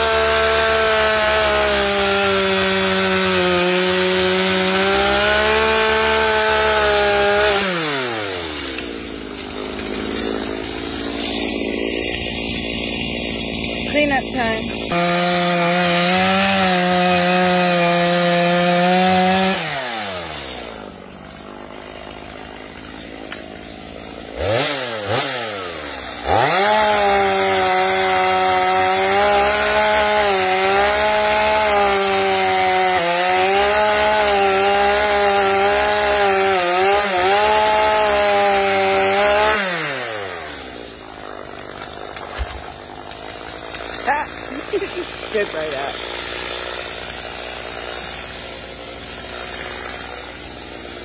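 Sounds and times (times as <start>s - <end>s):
chainsaw cutting wood: 0.0s - 51.0s
chainsaw revving and idling: 0.0s - 51.0s.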